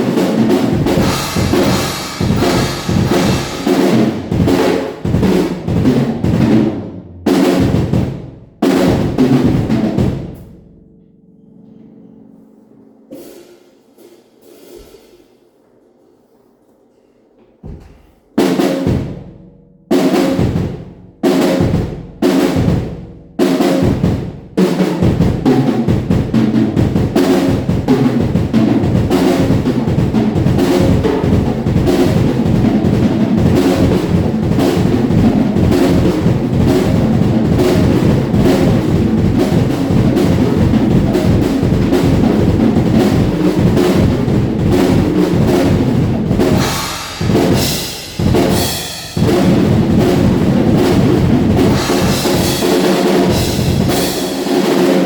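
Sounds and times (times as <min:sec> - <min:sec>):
acoustic drum kit playing: 0:00.0 - 0:10.8, 0:13.1 - 0:15.4, 0:17.6 - 0:55.0.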